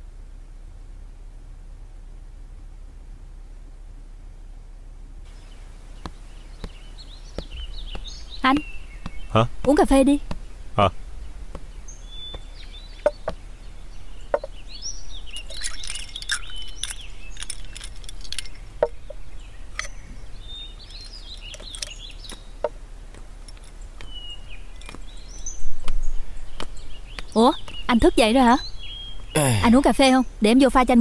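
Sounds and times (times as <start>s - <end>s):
small birds chirping: 5.2s - 31.0s.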